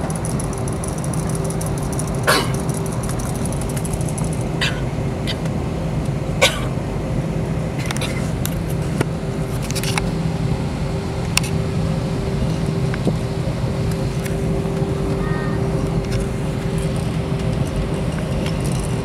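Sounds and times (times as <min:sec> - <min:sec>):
jet engines low hum and whine: 0:00.0 - 0:19.0.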